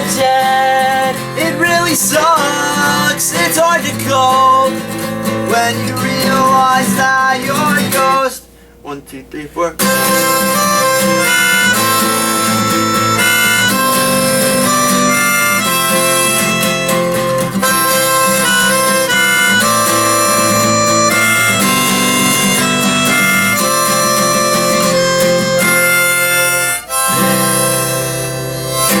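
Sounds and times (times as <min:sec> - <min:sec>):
harmonica playing: 0:00.0 - 0:08.2, 0:09.8 - 0:29.0
acoustic guitar: 0:00.0 - 0:29.0.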